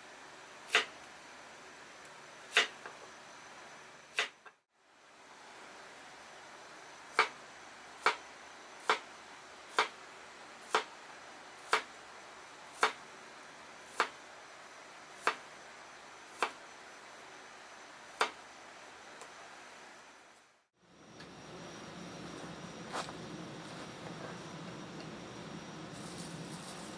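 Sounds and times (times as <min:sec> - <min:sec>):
faint steady hiss: 0:00.0 - 0:26.9.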